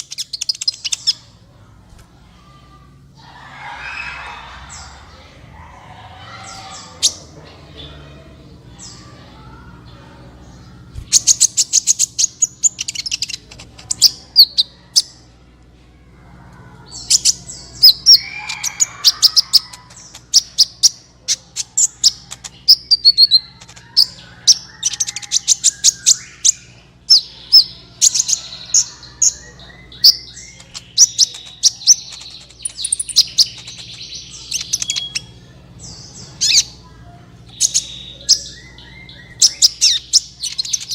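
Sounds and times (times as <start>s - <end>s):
bird chirps and rattling trills: 0.0s - 40.9s.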